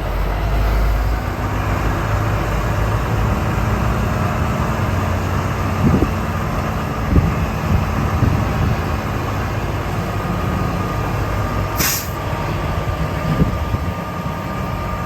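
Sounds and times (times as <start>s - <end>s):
truck tyres and engine rumble: 0.0s - 15.0s.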